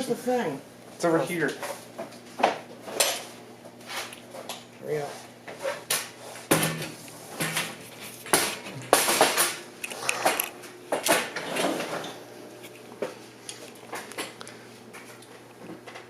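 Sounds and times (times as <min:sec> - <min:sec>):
objects clattering and rustling: 0:01.2 - 0:16.0.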